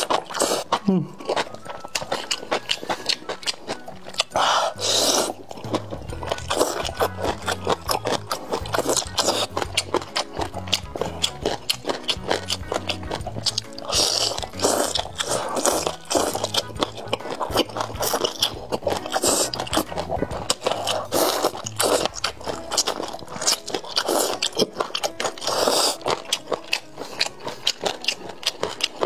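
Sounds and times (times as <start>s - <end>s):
biting and chewing food: 0.0s - 29.0s.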